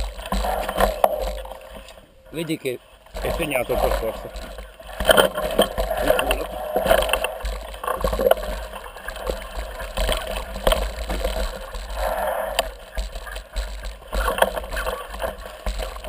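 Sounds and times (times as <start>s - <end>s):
bicycle knocking and rattling: 0.0s - 2.4s, 3.1s - 16.0s.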